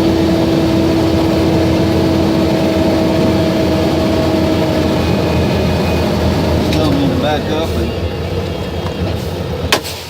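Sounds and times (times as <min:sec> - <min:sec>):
steady engine whine: 0:00.0 - 0:10.0
truck diesel engine rumbling: 0:00.0 - 0:10.0.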